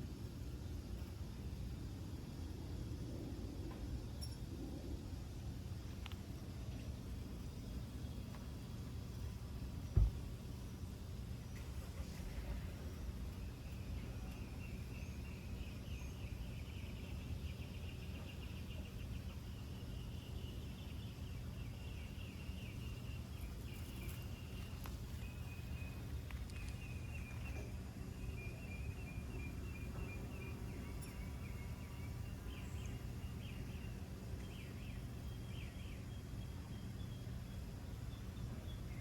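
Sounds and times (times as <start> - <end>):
steady low rumble: 0.0 - 38.9
birds chirping: 6.1 - 39.0.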